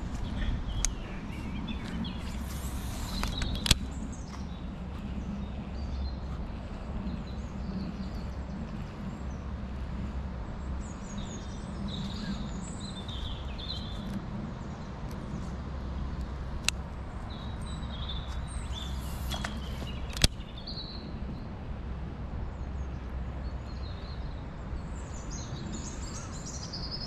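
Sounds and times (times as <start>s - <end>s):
small birds chirping: 0.0s - 21.6s, 22.4s - 27.0s
steady low rumble: 0.0s - 27.0s.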